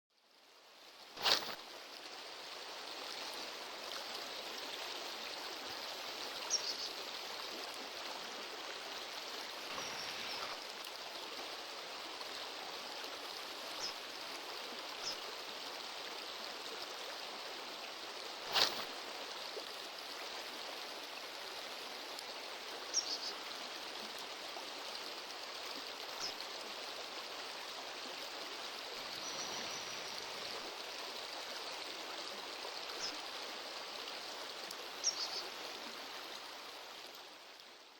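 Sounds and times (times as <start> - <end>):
stream flowing: 0.2 - 37.9.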